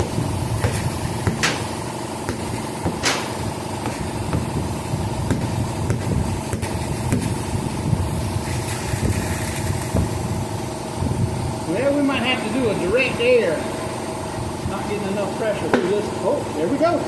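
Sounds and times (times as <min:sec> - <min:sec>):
air compressor running: 0:00.0 - 0:17.0.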